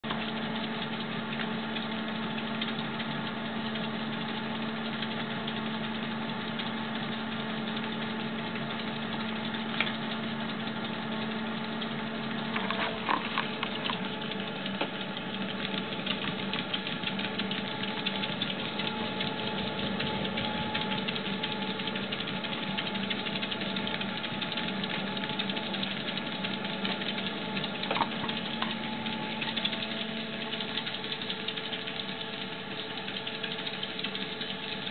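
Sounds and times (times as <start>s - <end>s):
treadmill motor humming: 0.0s - 34.9s.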